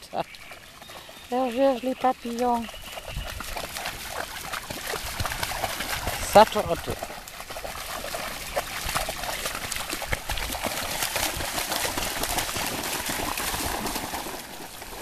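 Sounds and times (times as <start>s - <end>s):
dogs splashing through water: 0.0s - 15.0s.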